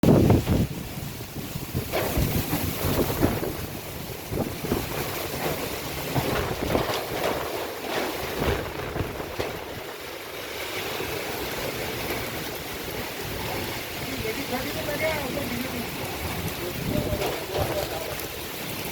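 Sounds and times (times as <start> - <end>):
strong gusty wind: 0.0 - 18.9
wind buffeting microphone: 0.0 - 18.9.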